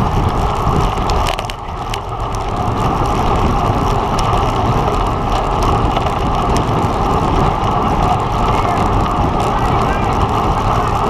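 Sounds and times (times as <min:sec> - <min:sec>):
bike tyre rumble: 0:00.0 - 0:11.0
wind rushing over microphone: 0:00.0 - 0:11.0.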